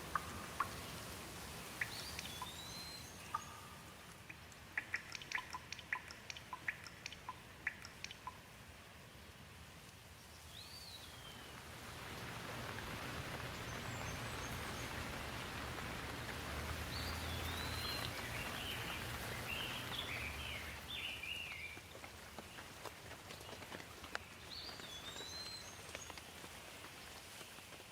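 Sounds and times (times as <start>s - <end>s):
birds chirping: 0.0s - 8.4s, 10.4s - 26.4s
steady rain falling: 0.0s - 27.9s.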